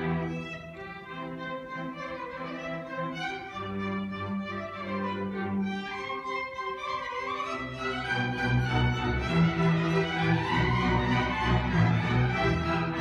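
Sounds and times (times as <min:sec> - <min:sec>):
low cello and bass notes: 0:00.0 - 0:06.5, 0:07.7 - 0:13.0
orchestra strings: 0:00.0 - 0:13.0
solo violin: 0:00.0 - 0:13.0.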